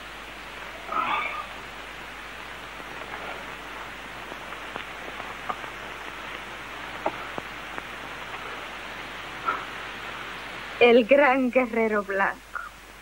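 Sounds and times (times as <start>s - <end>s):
steady low hiss: 0.0s - 13.0s
faint clicks and rustles: 0.2s - 10.8s.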